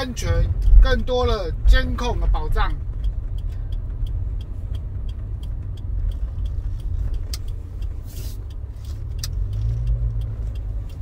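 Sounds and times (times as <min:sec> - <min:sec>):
road and engine rumble: 0:00.0 - 0:11.0
light regular ticks: 0:00.2 - 0:11.0.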